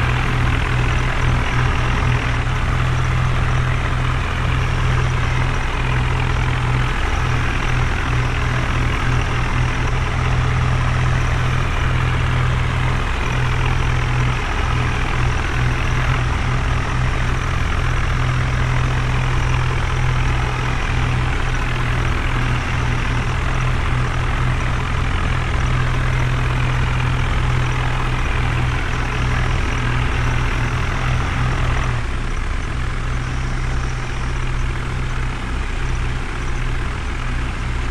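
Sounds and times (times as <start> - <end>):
heavy diesel engine humming: 0.0 - 37.9.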